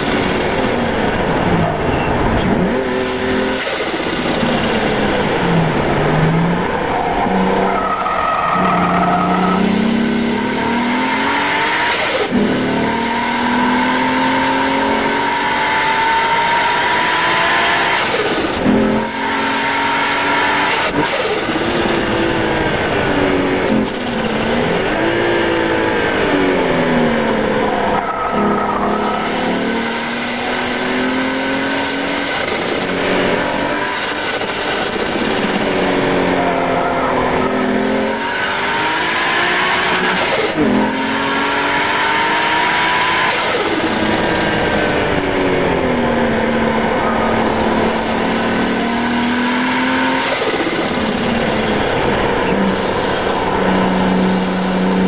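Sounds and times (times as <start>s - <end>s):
car engine revving with gear changes: 0.0s - 55.0s.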